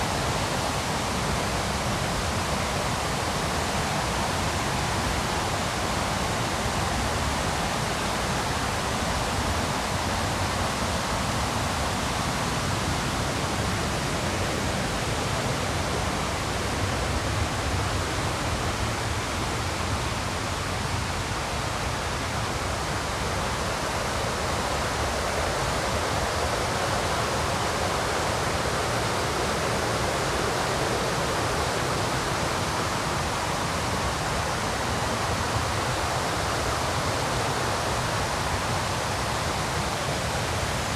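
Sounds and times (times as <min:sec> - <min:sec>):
river rapids rushing: 0:00.0 - 0:40.9.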